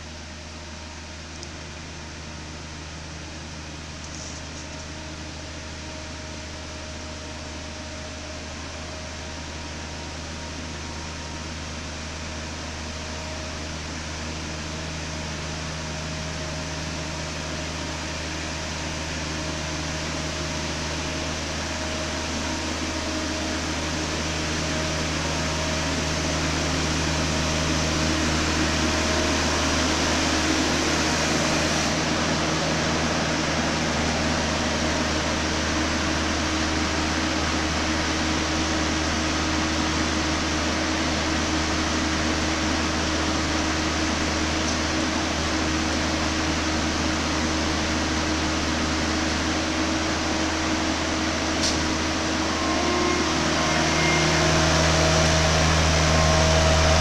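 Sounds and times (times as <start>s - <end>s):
sprayer turbine fan whirring hum: 0.0s - 57.0s.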